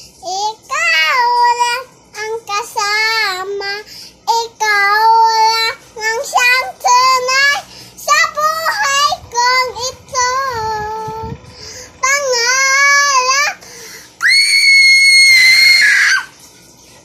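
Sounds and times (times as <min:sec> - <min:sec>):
girl singing unaccompanied: 0:00.1 - 0:14.6.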